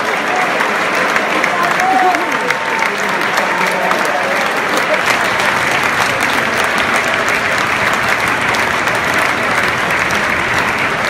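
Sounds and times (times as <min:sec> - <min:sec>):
stadium crowd applauding: 0:00.0 - 0:11.0.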